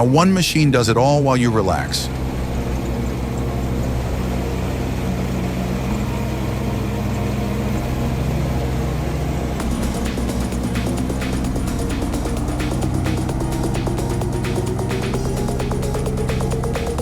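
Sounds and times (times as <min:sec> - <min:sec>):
harvesting machine engine running: 0:01.6 - 0:17.0.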